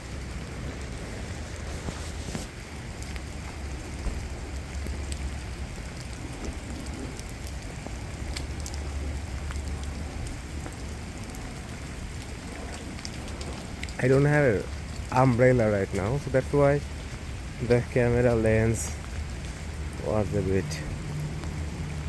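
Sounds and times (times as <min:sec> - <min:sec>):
continuous low rumble: 0:00.0 - 0:22.0
sharp ticks of raindrops: 0:00.0 - 0:22.0
steady rain falling: 0:00.0 - 0:22.0.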